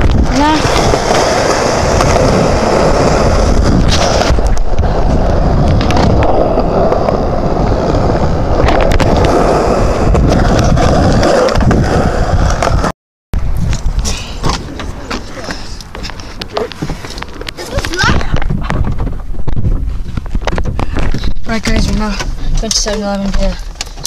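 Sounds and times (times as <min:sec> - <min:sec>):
skateboard wheels rolling on concrete: 0:00.0 - 0:24.0.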